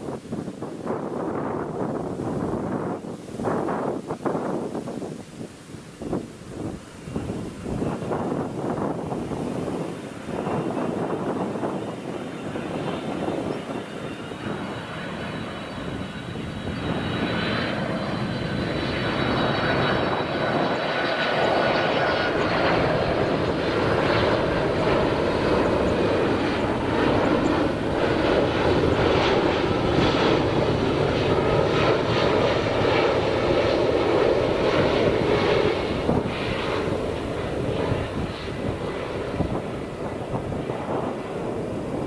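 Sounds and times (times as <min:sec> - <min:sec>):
jet engine rush: 0:00.0 - 0:42.0
jet engine whine: 0:00.0 - 0:42.0.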